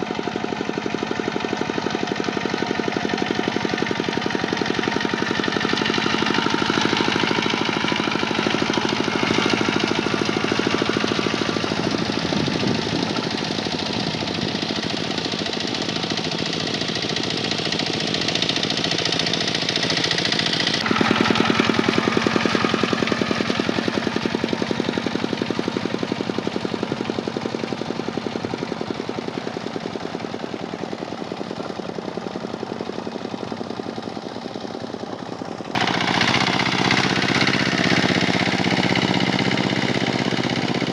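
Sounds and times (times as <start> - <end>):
tractor diesel engine clattering: 0.0 - 40.9.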